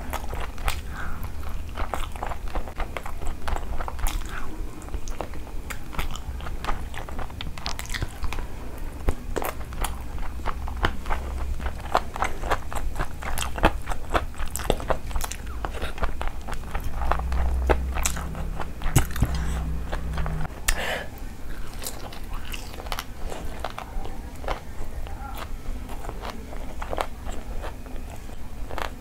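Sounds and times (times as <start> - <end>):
person chewing food: 0.0 - 29.0
steady low hum: 0.0 - 29.0.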